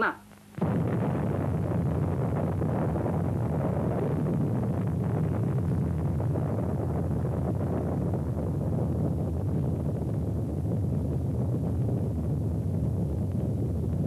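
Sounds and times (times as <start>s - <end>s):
deep explosion rumble: 0.6s - 14.0s.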